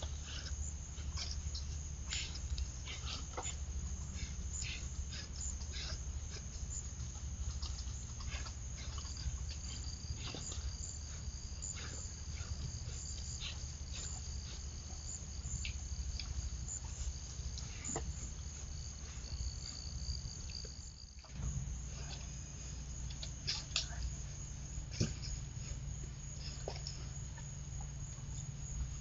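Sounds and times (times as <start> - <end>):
insect drone: 0.0 - 29.0
insects trilling: 0.0 - 29.0
low steady hum: 0.0 - 29.0.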